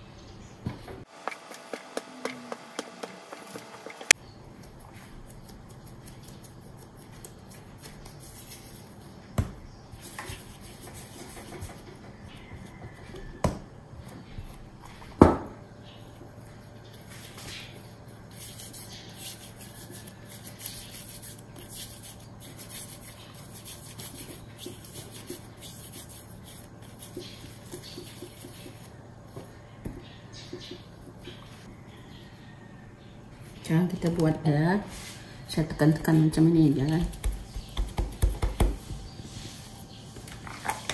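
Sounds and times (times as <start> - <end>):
hands rolling dough: 1.0 - 31.7, 33.4 - 40.9.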